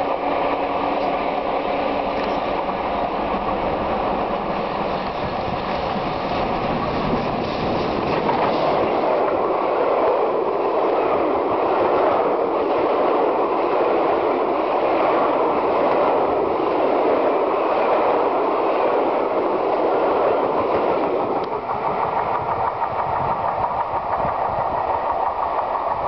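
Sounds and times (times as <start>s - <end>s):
steam locomotive passing: 0.0s - 26.0s
train wheels rumbling on rails: 0.0s - 26.0s.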